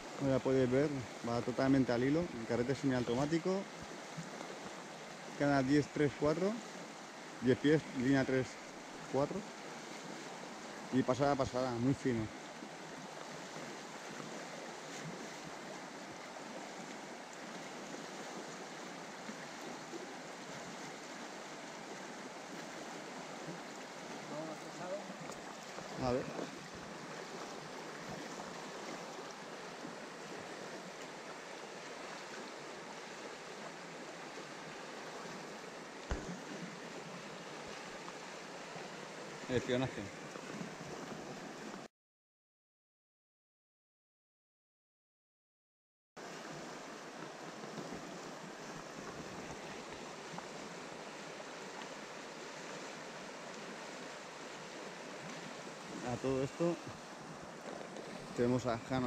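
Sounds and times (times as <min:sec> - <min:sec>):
river current rushing: 0:00.0 - 0:41.9, 0:46.2 - 0:59.0.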